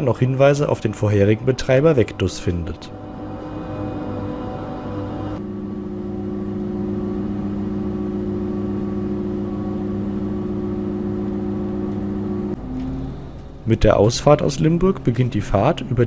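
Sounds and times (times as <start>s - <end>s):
diesel engine low hum: 0.0s - 16.0s.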